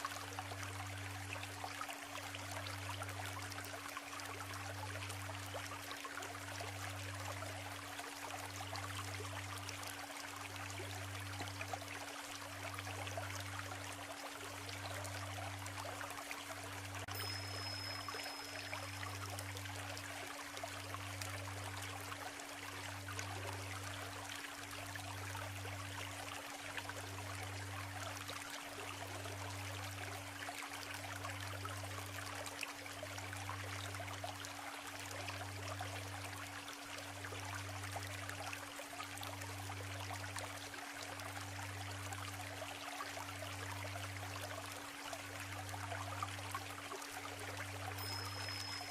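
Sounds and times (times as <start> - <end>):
stream babbling: 0.0 - 48.9.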